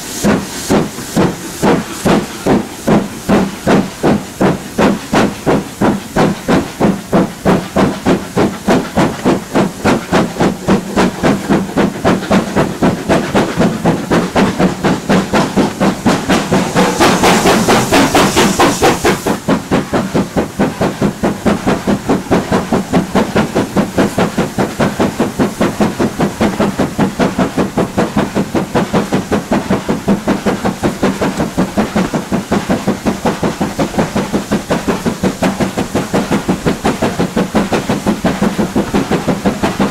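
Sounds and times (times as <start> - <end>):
steam hissing: 0.0 - 39.9
steam locomotive chuffing: 0.0 - 39.9.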